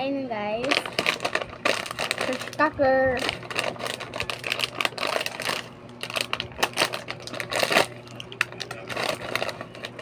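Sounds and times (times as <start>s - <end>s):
plastic snack packet crinkling: 0.6s - 10.0s.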